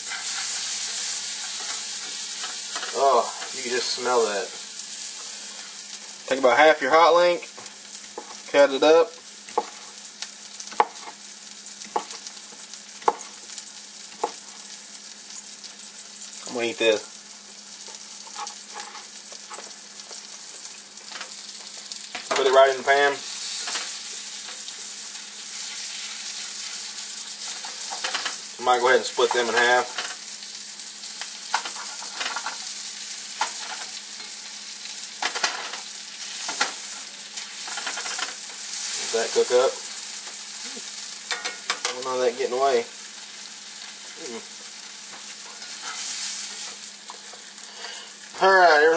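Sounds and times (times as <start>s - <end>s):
onions sizzling in butter: 0.0s - 48.9s.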